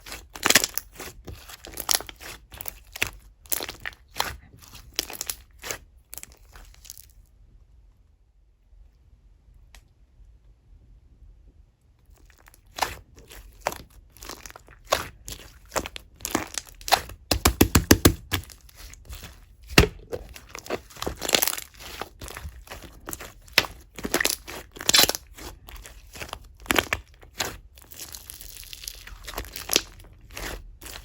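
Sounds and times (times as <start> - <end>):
slime squished by hand: 0.0 - 7.1, 12.1 - 31.0.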